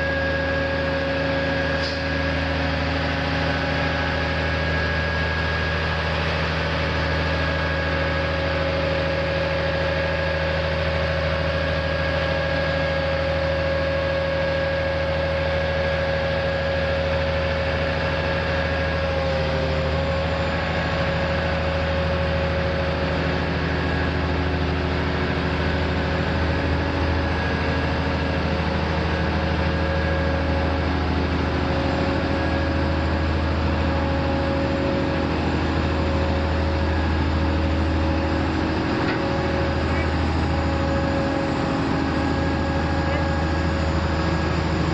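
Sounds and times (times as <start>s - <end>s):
heavy vehicle engine idling: 0.0s - 44.9s.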